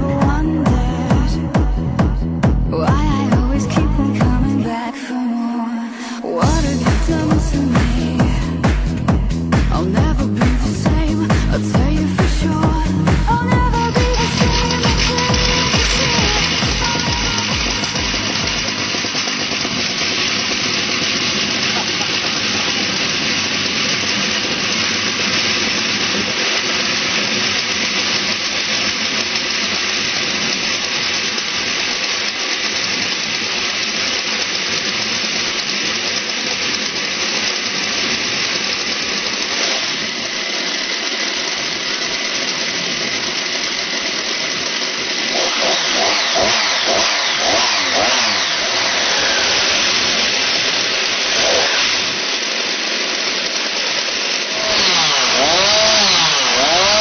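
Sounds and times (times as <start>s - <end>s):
two-stroke engine revving: 0.0s - 4.8s, 6.2s - 57.0s.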